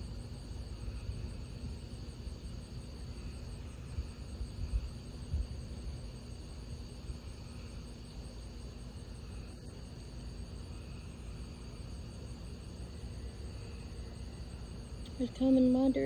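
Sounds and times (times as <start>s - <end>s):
crickets chirping: 0.0s - 16.0s
low steady rumble: 0.0s - 16.0s.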